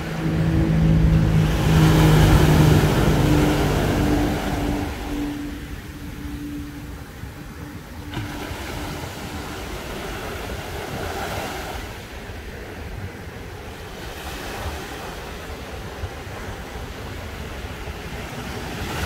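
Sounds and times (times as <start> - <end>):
small waves breaking on beach: 0.0 - 19.0
wind buffeting microphone: 0.0 - 19.0.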